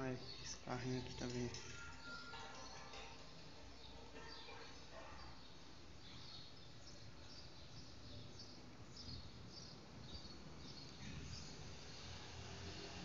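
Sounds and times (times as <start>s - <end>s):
faint ambient noise: 0.0s - 13.0s.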